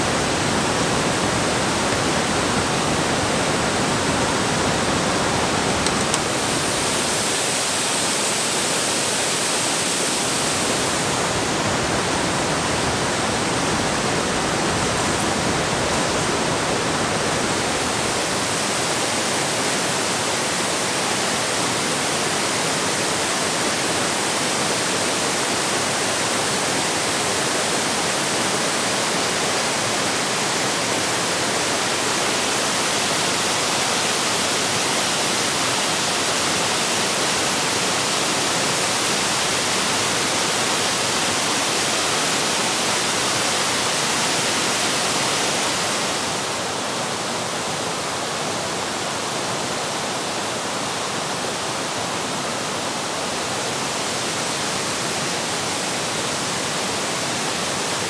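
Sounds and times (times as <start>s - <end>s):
running water hiss: 0.0s - 58.0s.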